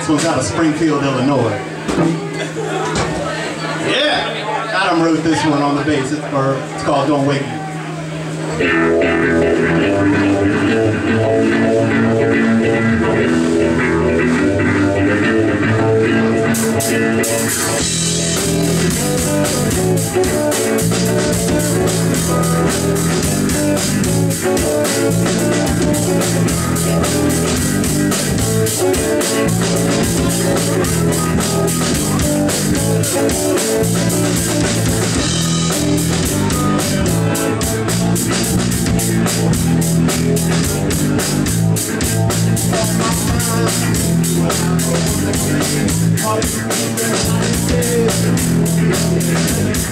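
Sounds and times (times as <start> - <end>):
guitars strumming: 0.0 - 49.9
drum kit: 8.0 - 49.9.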